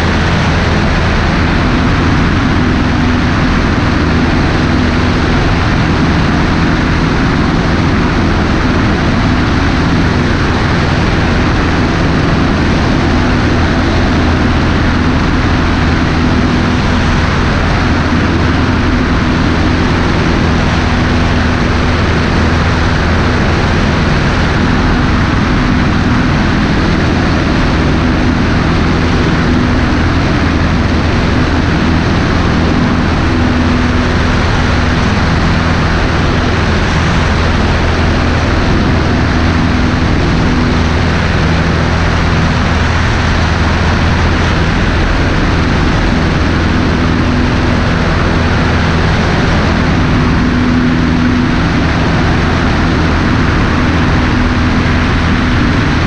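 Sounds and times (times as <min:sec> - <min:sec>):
propeller plane engine in flight: 0:00.0 - 0:56.0
wind rush over microphone: 0:00.0 - 0:56.0.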